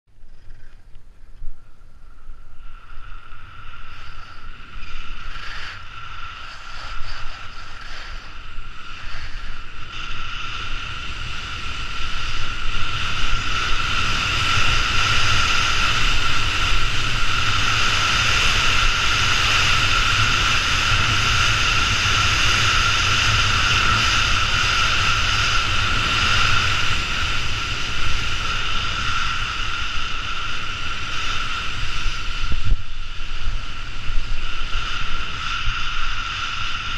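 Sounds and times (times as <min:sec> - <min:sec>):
wind rumbling on microphone: 0:00.1 - 0:36.9
skis scraping on hard snow: 0:03.9 - 0:36.8.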